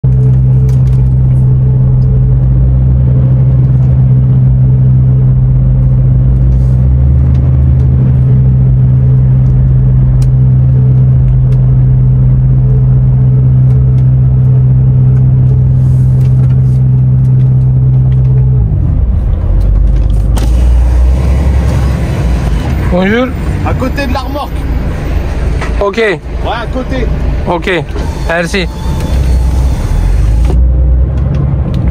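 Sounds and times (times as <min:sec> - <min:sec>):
low engine rumble: 0:00.0 - 0:31.9
truck diesel engine running: 0:00.0 - 0:31.9.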